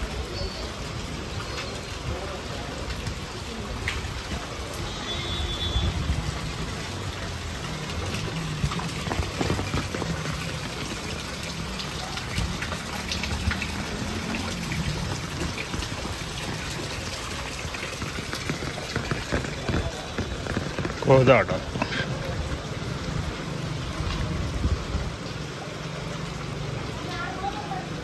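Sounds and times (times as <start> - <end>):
floodwater rushing: 0.0 - 28.0
low water rumble: 0.0 - 28.0
small water splashes: 0.0 - 28.0.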